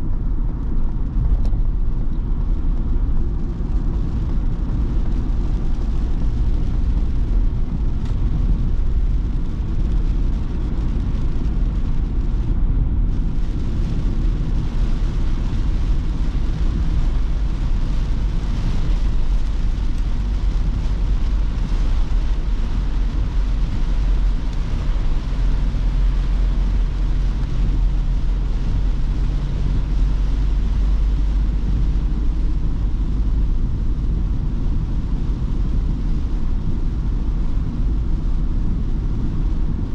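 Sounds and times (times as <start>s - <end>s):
road noise: 0.0s - 39.9s
van engine rumble: 0.0s - 39.9s.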